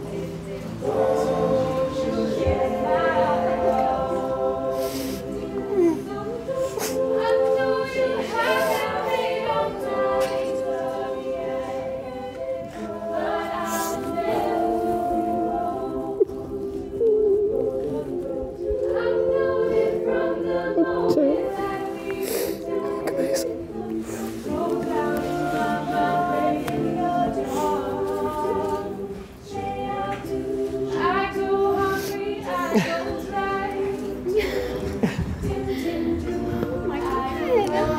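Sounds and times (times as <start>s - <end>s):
voices singing in harmony: 0.0s - 37.9s.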